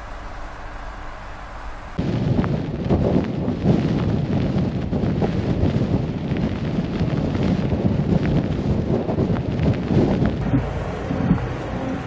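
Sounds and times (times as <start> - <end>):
steady noise: 0.0 - 6.1, 6.9 - 12.0
wind blowing across microphone: 0.0 - 12.0.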